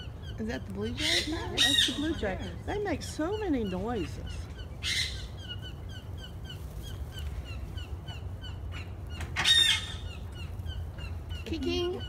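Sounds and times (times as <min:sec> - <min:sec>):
blue jay harsh call: 0:00.0 - 0:12.0.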